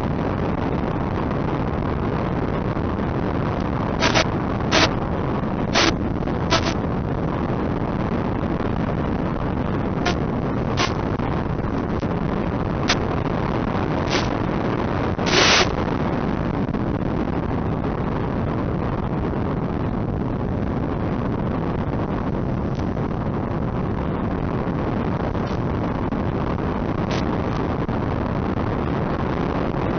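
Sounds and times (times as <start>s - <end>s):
static crackle bursts: 0.0s - 29.9s
wind and propellers rushing: 0.0s - 29.9s.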